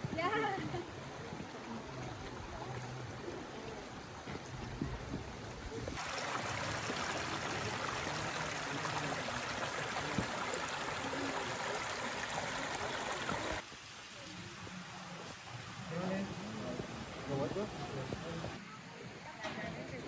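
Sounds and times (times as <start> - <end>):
rushing water: 0.0 - 19.2.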